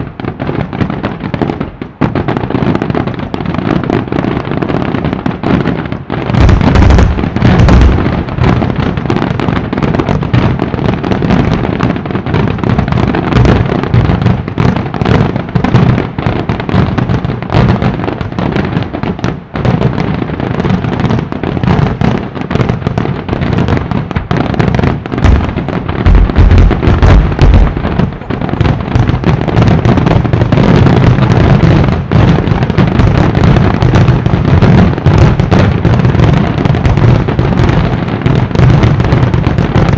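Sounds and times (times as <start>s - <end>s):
deep fireworks booms: 0.0s - 39.9s
fireworks bangs: 0.0s - 39.9s.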